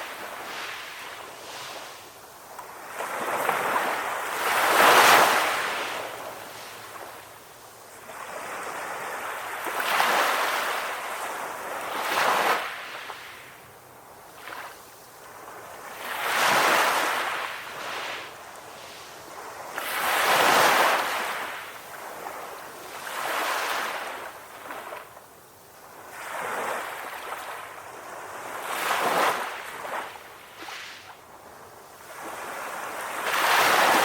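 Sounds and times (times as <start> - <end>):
ocean waves breaking on shore: 0.0 - 13.6, 14.2 - 34.0.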